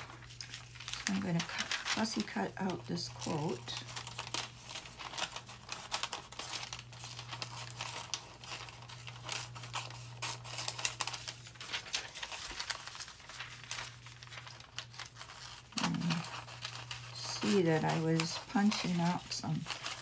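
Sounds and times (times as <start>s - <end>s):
paper rustling: 0.0s - 20.0s
scissors snipping paper: 0.0s - 20.0s.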